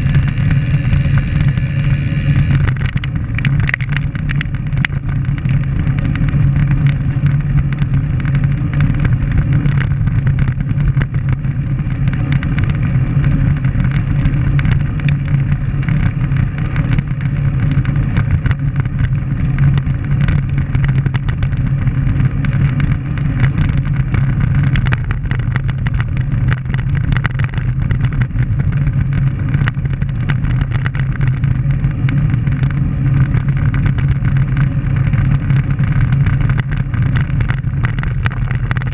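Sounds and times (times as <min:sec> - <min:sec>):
tyres rolling on rough asphalt: 0:00.0 - 0:38.9
wind rushing over microphone: 0:00.0 - 0:38.9.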